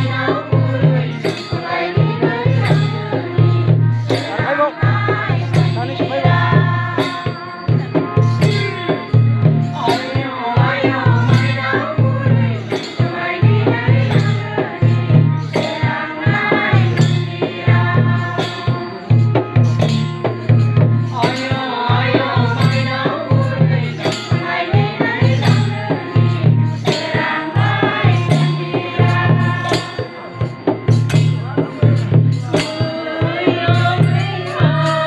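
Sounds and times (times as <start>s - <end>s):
barrel drum beating: 0.0s - 35.0s
jingling percussion: 0.0s - 35.0s
wavering sung melody: 0.0s - 35.0s.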